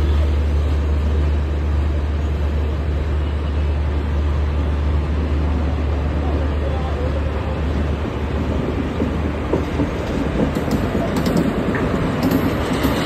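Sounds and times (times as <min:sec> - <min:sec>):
locomotive deep hum: 0:00.0 - 0:13.0
train rushing noise: 0:00.0 - 0:13.0.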